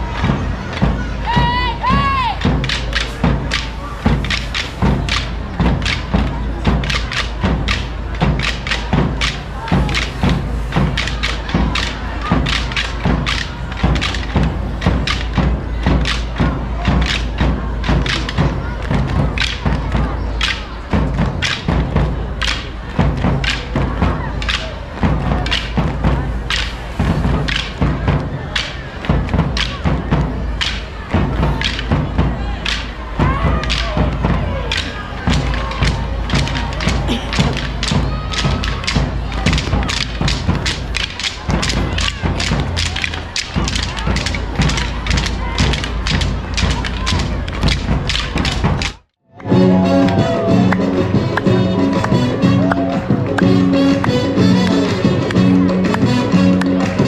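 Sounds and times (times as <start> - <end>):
crowd noise: 0.0 - 57.0
drums beating steady rhythm: 0.0 - 57.0.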